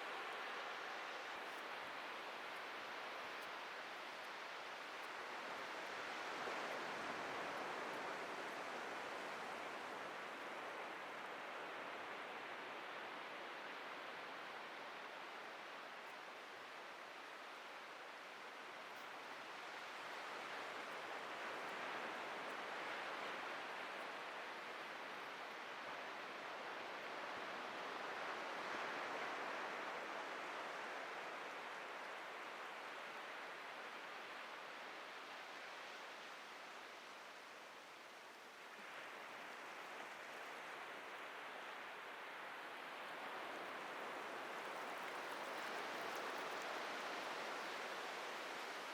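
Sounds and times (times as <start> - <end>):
ocean waves on a beach: 0.0 - 48.9.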